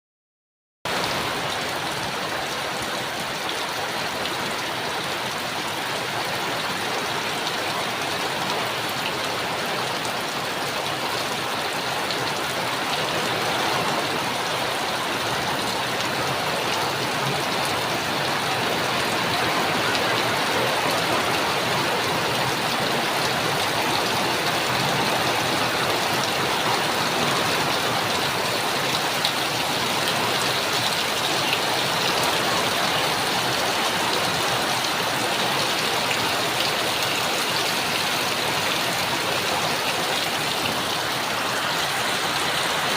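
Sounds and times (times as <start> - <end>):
steady heavy rain: 0.9 - 42.9.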